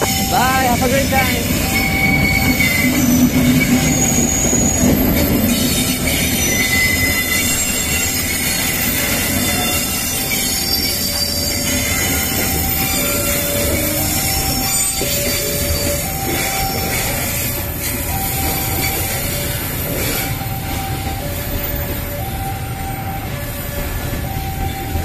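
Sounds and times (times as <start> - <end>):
train wheels rumbling on rail: 0.0 - 25.0
wheels squealing: 0.0 - 25.0.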